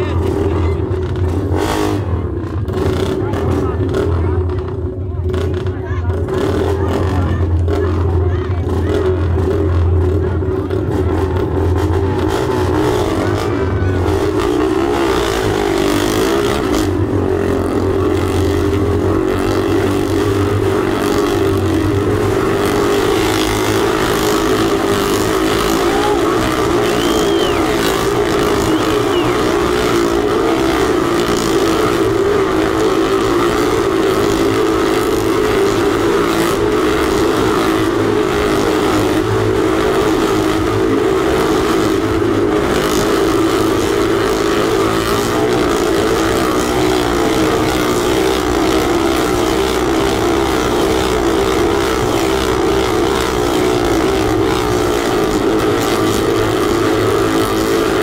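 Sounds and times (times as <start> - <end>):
motorcycle engines running: 0.0 - 58.0.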